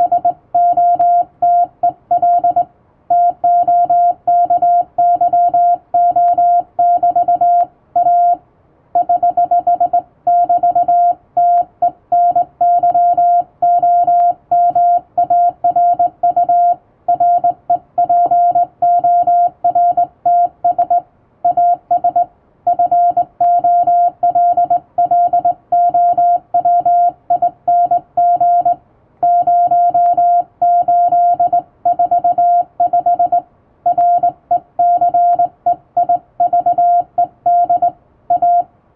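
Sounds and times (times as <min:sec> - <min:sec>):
morse code sidetone beeps: 0:00.0 - 0:08.4, 0:09.0 - 0:38.7.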